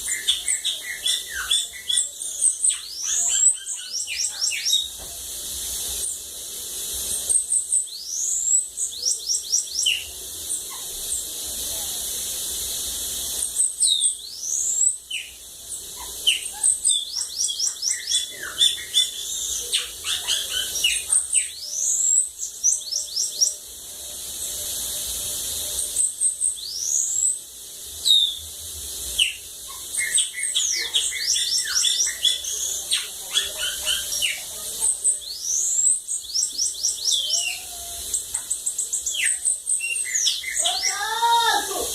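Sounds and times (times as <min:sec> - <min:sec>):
bird singing high trills: 0:00.0 - 0:05.0, 0:07.0 - 0:11.3, 0:13.3 - 0:41.9.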